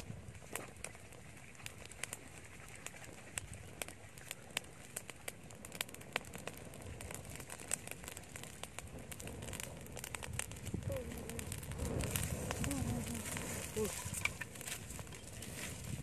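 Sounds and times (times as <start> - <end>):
sharp pops of fire: 0.0 - 16.0
wood fire crackling: 0.0 - 16.0.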